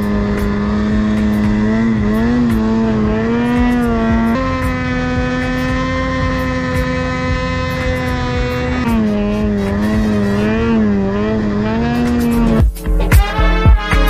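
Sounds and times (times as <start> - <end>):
snowmobile engine at high revs: 0.0 - 14.0.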